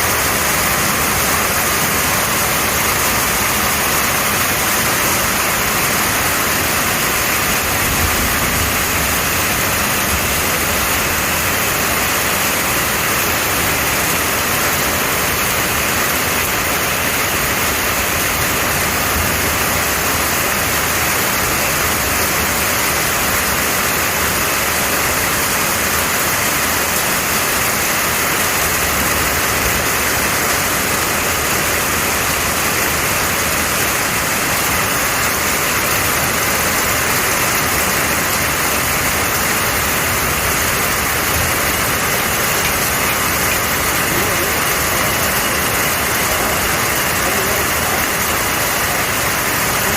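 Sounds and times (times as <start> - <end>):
heavy rain downpour: 0.0 - 49.9.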